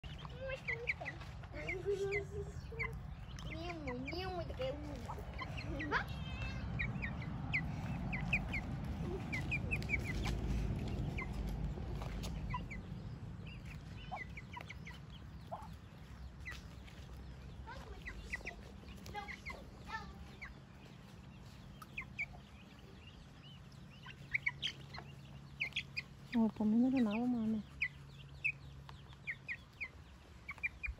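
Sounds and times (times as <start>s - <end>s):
ducklings peeping: 0.0s - 30.9s
low rumble: 0.0s - 30.9s.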